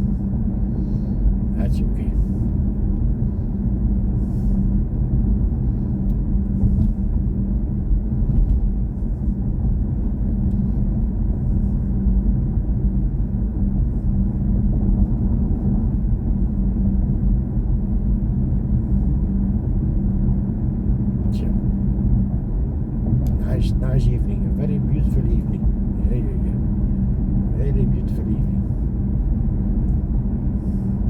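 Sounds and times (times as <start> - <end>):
car road and tyre rumble: 0.0 - 31.0
constant low hum: 0.0 - 31.0.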